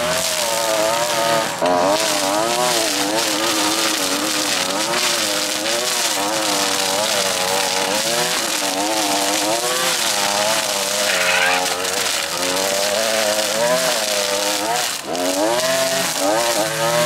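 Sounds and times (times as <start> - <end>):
string trimmer cutting grass: 0.0 - 17.0.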